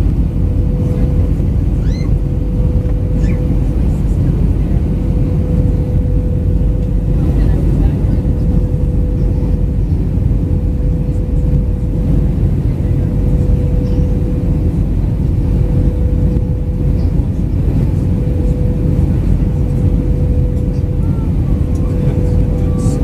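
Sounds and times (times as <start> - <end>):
aircraft cabin rumble: 0.0 - 23.0
constant hum tone: 0.0 - 23.0.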